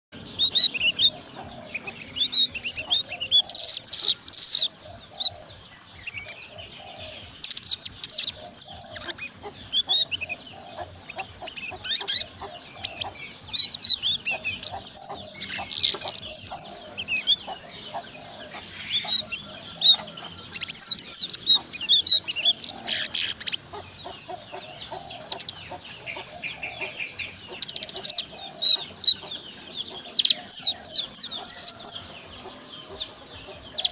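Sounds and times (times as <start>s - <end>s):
bird twittering chirps: 0.2s - 33.9s.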